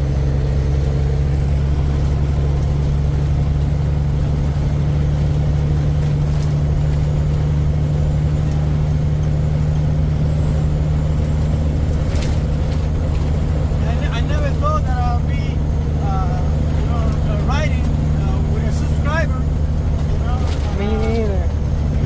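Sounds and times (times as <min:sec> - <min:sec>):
truck diesel engine droning: 0:00.0 - 0:22.0.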